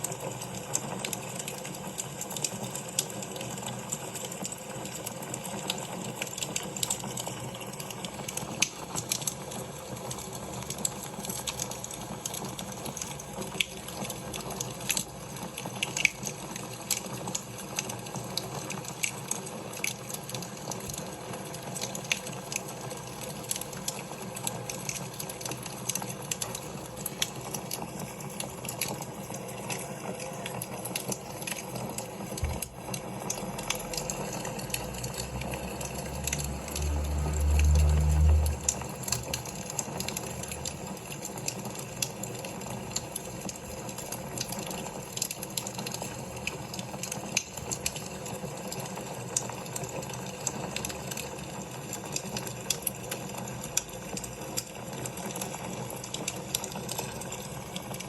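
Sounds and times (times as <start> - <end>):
fire popping and snapping: 0.0 - 58.0.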